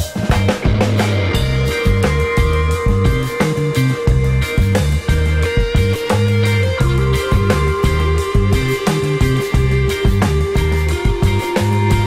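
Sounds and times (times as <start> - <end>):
music with steady beat and bass: 0.0 - 12.0.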